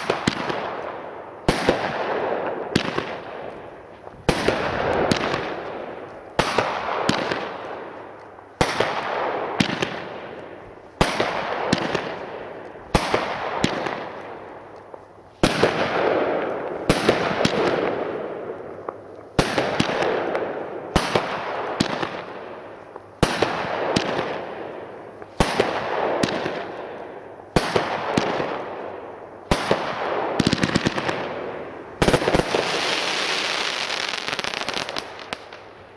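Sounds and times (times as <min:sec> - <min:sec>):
continuous firework crackling hiss: 0:00.0 - 0:35.9.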